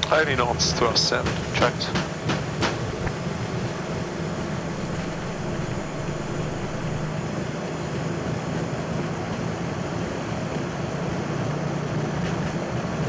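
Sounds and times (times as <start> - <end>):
low hum: 0.0 - 12.6
jet engines at takeoff thrust: 0.0 - 13.0.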